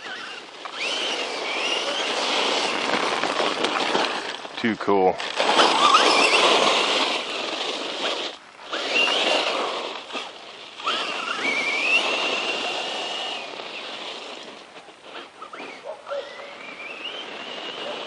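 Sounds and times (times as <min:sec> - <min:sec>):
electric motor whining: 0:00.0 - 0:04.4, 0:05.2 - 0:18.0
tyre noise: 0:00.0 - 0:18.0.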